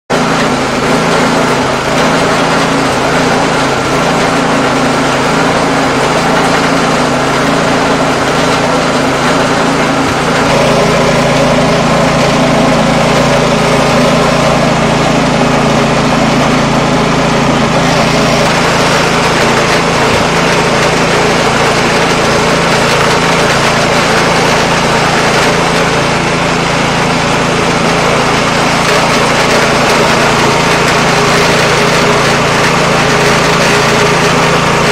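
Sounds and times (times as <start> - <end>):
snowblower engine idling: 0.1 - 34.9.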